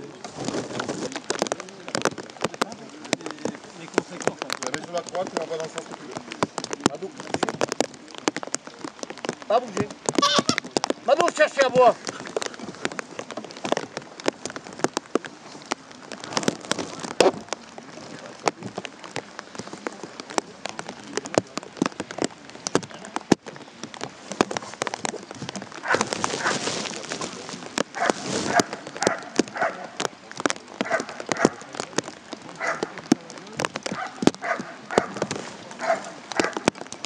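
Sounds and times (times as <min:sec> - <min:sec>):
raindrops tapping: 0:00.0 - 0:37.0
steady rain hiss: 0:00.0 - 0:37.0.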